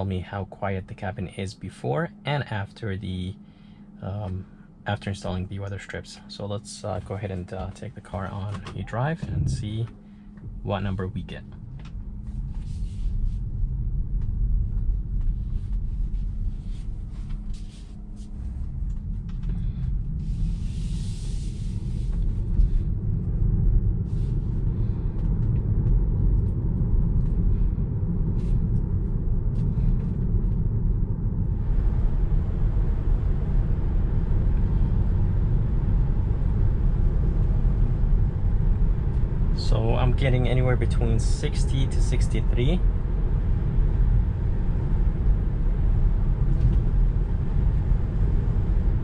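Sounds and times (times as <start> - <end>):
road and tyre noise in car cabin: 0.0 - 49.0.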